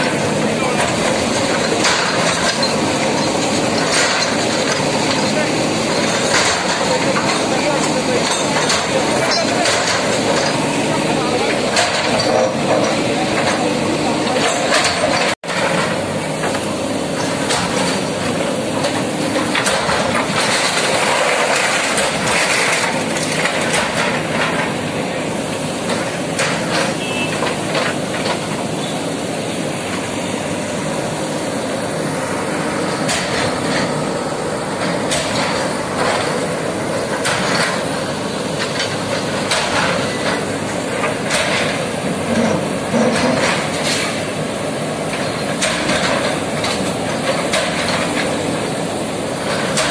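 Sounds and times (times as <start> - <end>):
diesel engines under load: 0.0 - 49.9.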